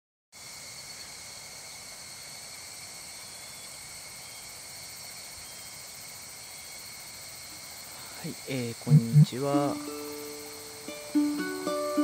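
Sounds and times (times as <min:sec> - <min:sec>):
insects trilling: 0:00.4 - 0:12.0.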